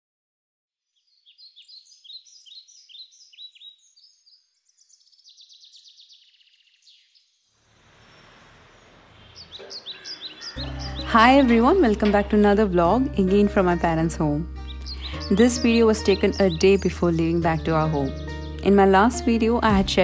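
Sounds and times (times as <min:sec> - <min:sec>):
birds chirping and trilling: 0:00.8 - 0:20.0.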